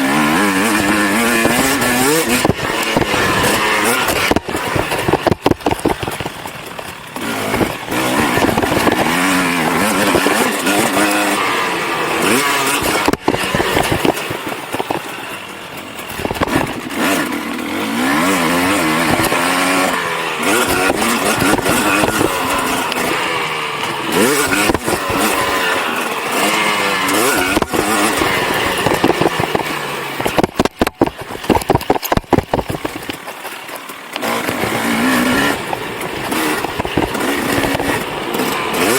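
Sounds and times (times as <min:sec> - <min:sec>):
two-stroke motocross engine revving: 0:00.0 - 0:38.9
camera rattling in its case: 0:00.6 - 0:10.8, 0:12.2 - 0:38.9.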